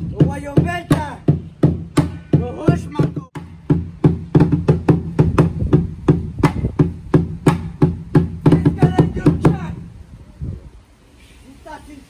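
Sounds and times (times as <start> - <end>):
drum beaten in steady rhythm: 0.0 - 9.8.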